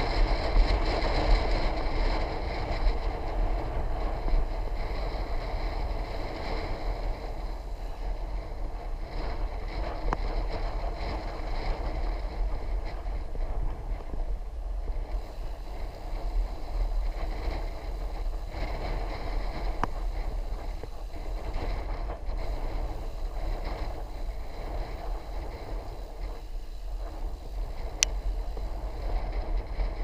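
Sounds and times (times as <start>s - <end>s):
bicycle tyre and road noise: 0.0s - 30.0s
wind rumbling on microphone: 0.0s - 30.0s.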